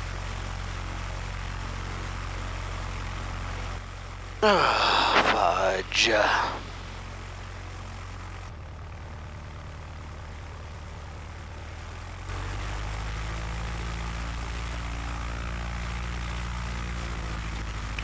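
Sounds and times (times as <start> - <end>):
aircraft engine and propeller: 0.0 - 18.0.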